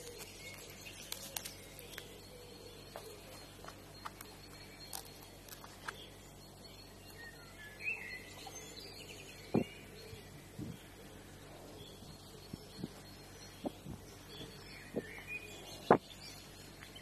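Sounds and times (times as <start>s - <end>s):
bird chirp: 0.0s - 17.0s.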